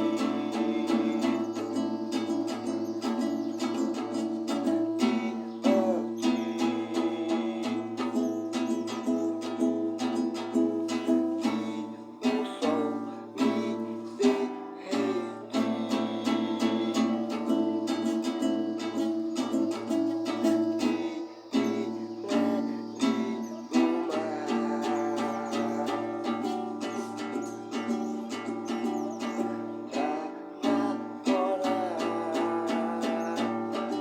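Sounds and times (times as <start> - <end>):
strummed acoustic guitar: 0.0 - 34.0.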